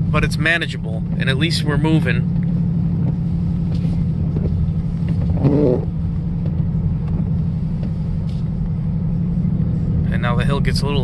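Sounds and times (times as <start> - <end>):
car engine running from inside: 0.0 - 11.0.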